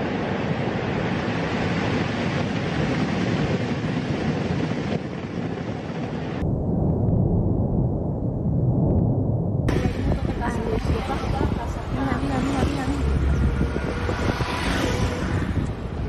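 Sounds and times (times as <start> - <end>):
volcano rumbling: 0.0 - 16.0.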